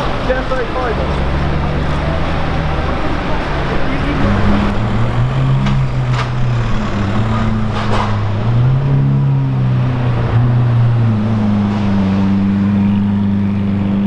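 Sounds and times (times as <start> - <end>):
car engine running at low revs: 0.0 - 14.0
street noise: 0.0 - 14.0.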